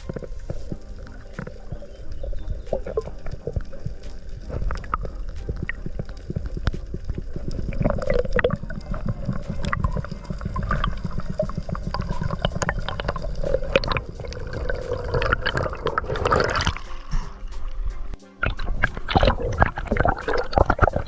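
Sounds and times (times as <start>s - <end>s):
low underwater rumble: 0.0s - 21.0s
sharp underwater clicks and crackles: 0.0s - 21.0s
underwater sloshing and gurgling: 0.0s - 21.0s.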